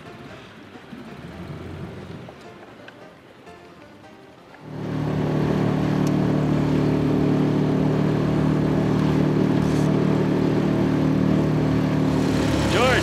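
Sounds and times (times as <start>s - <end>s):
outboard motor hum: 0.0s - 2.4s, 4.6s - 13.0s.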